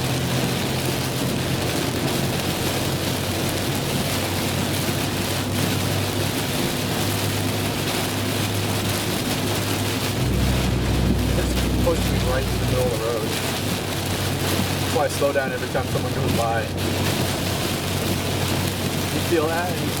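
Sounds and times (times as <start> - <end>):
car road and engine drone: 0.0 - 20.0
rain on a car: 0.0 - 20.0.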